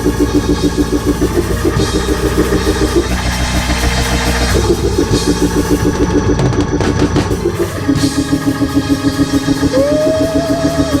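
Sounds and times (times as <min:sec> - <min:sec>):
live band playing fast music: 0:00.0 - 0:11.0.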